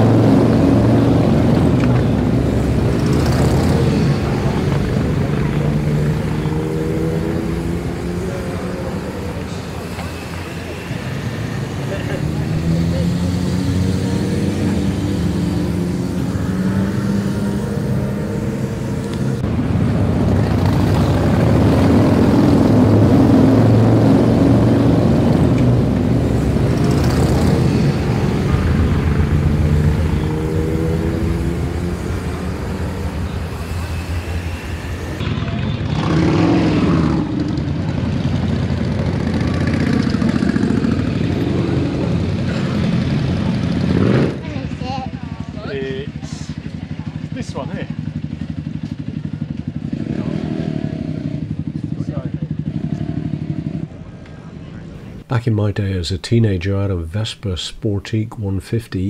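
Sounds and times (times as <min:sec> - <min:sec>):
motorcycle engine running: 0:00.0 - 0:55.2.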